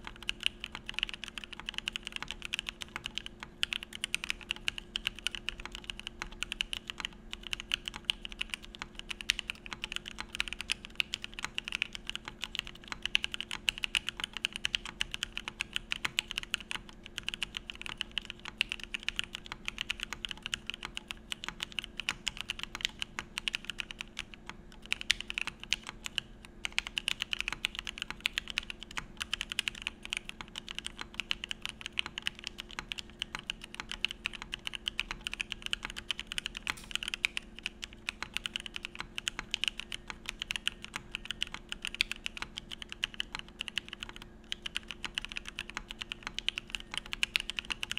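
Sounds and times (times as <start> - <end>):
fast mechanical keyboard typing: 0.0 - 47.9.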